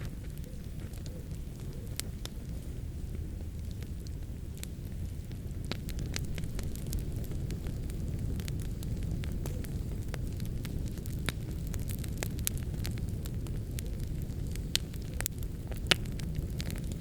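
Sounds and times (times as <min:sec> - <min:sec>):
fire burning with crackles: 0:00.0 - 0:17.0
fire popping: 0:00.0 - 0:17.0.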